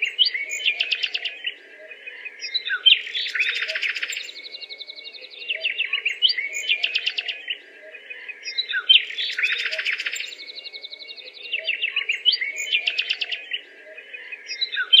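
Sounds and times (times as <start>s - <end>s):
small birds chirping and trilling: 0.0s - 15.0s.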